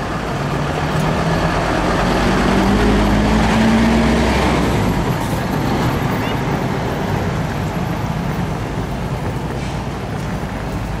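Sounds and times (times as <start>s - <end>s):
bus engine accelerating: 0.0s - 11.0s.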